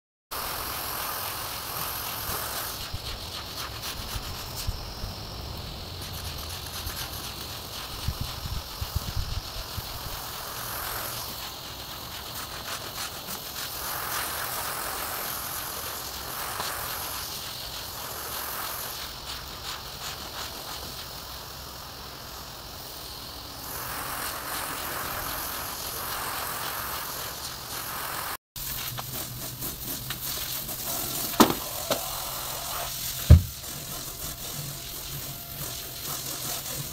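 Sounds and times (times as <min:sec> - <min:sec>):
brush scrubbing rug: 0:00.3 - 0:21.7, 0:23.6 - 0:36.9
water spraying from hose: 0:00.3 - 0:36.9.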